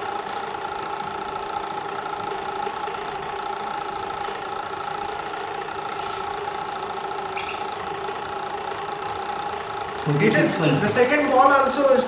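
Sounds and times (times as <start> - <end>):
stirrer motor hum and whine: 0.0 - 12.0.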